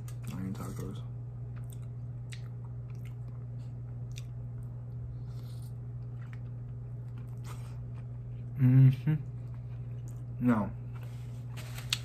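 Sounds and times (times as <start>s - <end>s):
chewing taco: 0.0s - 11.2s
steady low hum: 0.0s - 12.0s.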